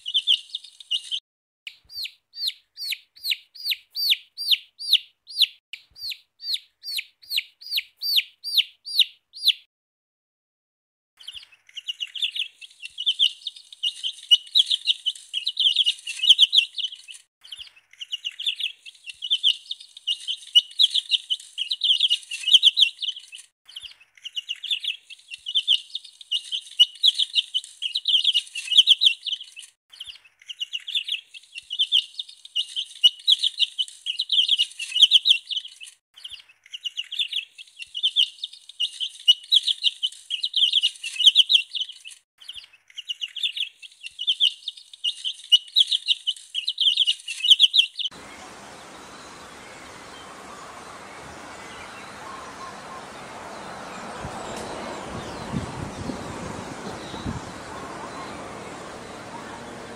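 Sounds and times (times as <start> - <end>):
baby chicks peeping: 0.1 - 1.2, 1.9 - 9.6, 11.2 - 59.9.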